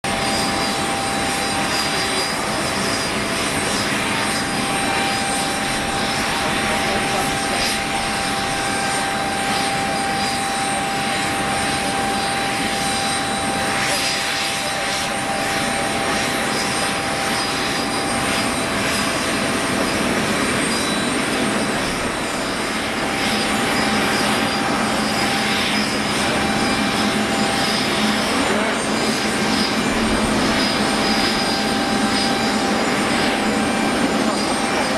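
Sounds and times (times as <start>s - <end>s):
jet engines whining: 0.0s - 34.9s
jet rush: 0.0s - 34.9s.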